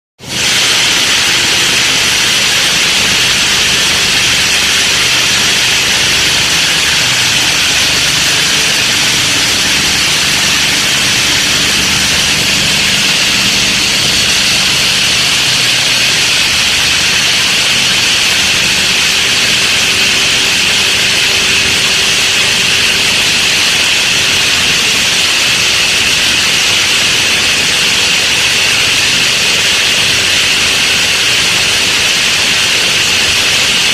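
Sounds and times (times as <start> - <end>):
feed grinder machine running: 0.2 - 33.9.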